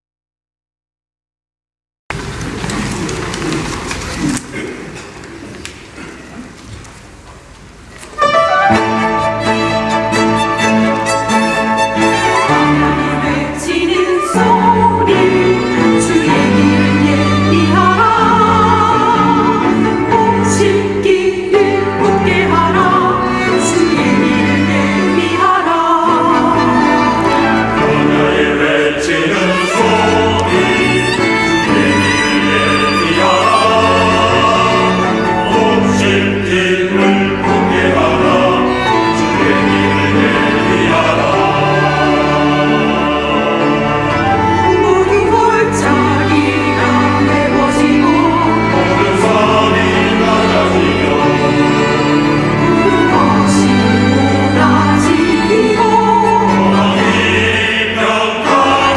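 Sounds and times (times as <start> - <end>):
strings accompaniment: 8.0 - 58.9
church choir singing: 8.2 - 58.9.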